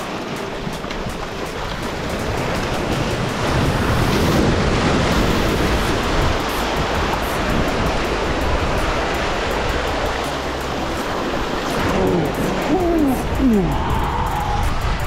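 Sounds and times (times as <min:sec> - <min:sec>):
surf washing against rocks: 0:00.0 - 0:15.0.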